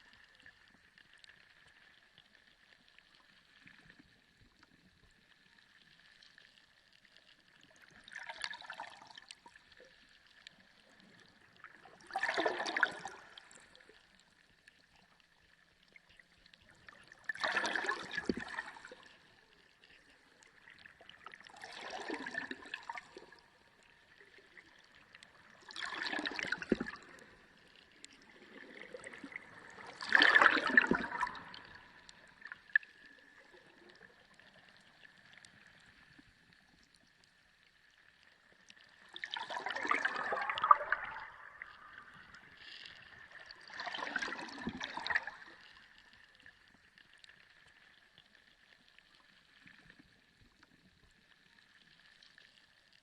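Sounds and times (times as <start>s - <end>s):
underwater water surging: 0.0s - 53.0s.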